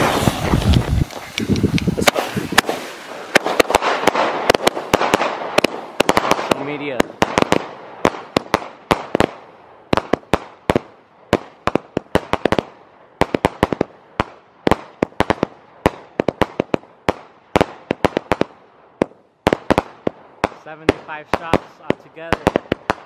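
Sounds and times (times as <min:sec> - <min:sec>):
fireworks banging: 0:00.0 - 0:23.0.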